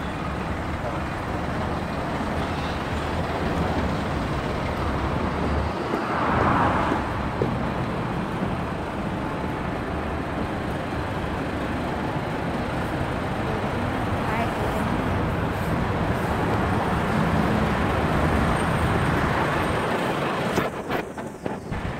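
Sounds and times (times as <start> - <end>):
street traffic noise: 0.0 - 21.9.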